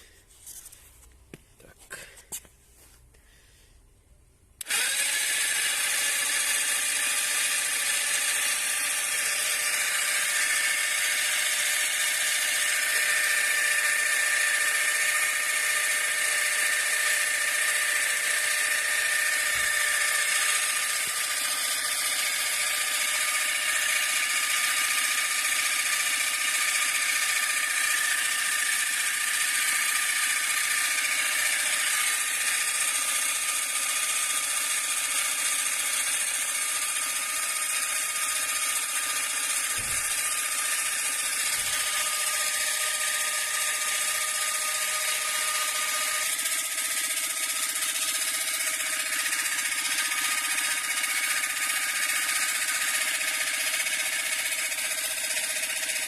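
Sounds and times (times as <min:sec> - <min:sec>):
compressor whining: 0:04.4 - 0:56.0.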